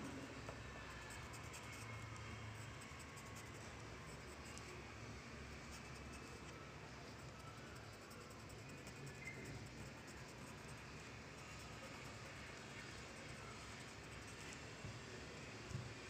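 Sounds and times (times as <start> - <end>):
low steady hum: 0.0 - 16.0
pencil scratching on paper: 0.9 - 4.8, 5.6 - 14.6.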